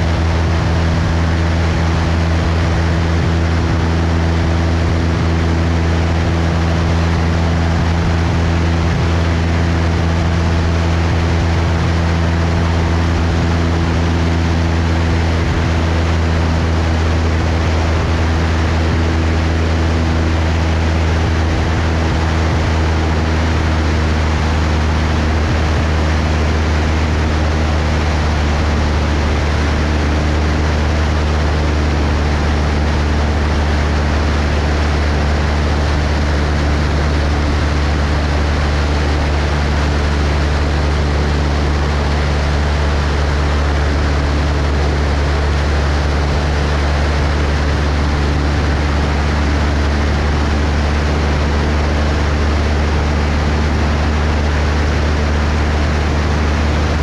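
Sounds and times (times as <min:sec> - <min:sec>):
propeller plane engine droning: 0:00.0 - 0:57.0
rush of airflow: 0:00.0 - 0:57.0.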